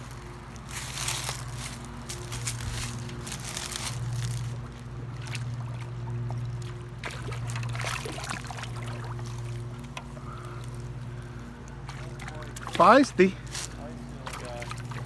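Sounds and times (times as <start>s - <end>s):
steady low hum: 0.0s - 15.0s
water splashing: 0.6s - 15.0s.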